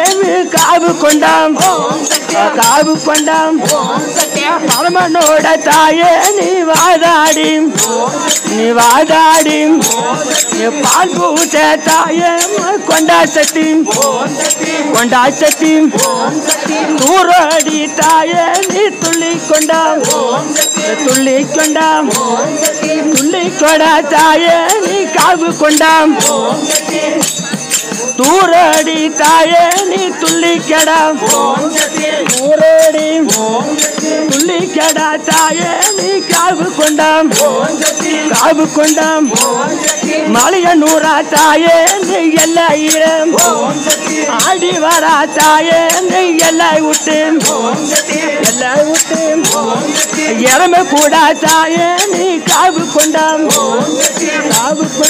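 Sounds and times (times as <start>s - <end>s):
frame drums with jingles: 0.0s - 55.0s
man singing: 0.0s - 55.0s.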